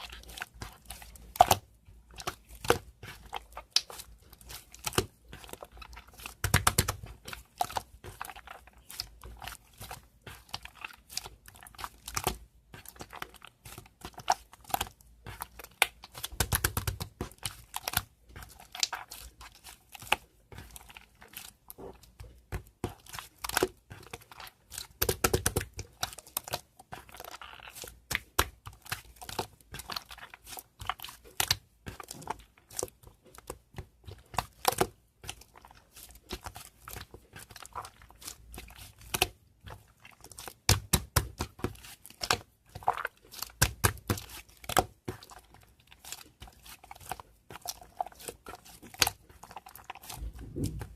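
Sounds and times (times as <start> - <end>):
heavy slime squishes: 0.0 - 50.9
slime squishing and crackling: 0.0 - 50.9.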